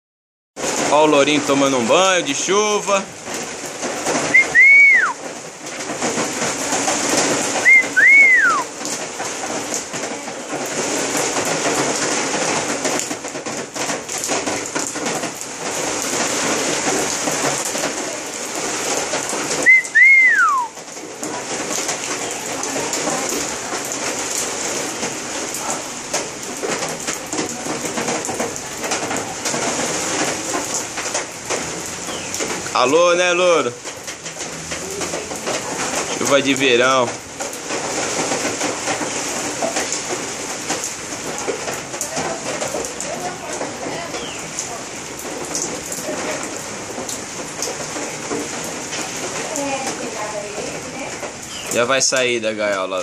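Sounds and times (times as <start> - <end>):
steady rain hiss: 0.6 - 53.0.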